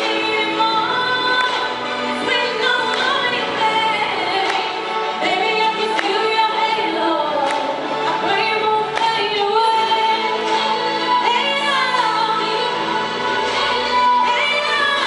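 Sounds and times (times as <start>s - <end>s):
song with female vocals: 0.0s - 15.0s.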